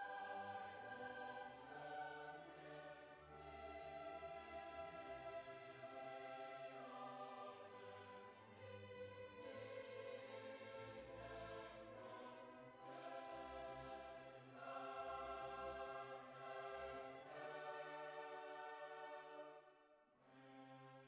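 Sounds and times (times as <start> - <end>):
quiet background music chords: 0.0 - 21.0.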